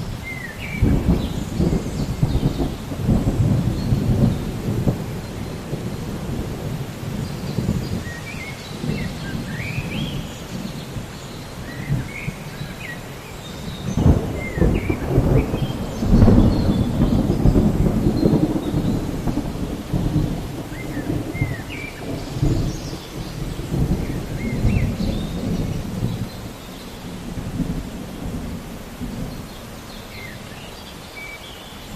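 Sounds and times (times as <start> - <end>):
rolling thunder: 0.0 - 30.4
steady rain: 0.0 - 31.9.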